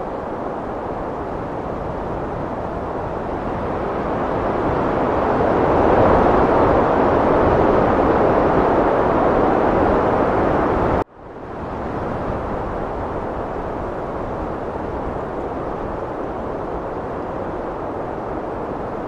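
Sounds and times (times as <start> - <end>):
heavy wind rushing: 0.0 - 19.0.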